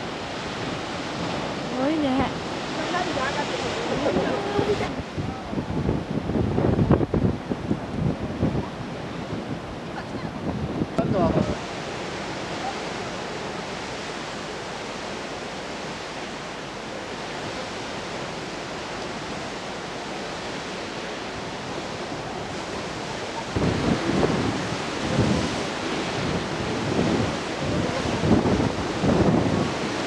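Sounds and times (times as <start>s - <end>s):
sea surf breaking: 0.0s - 30.0s
wind buffeting microphone: 0.0s - 30.0s.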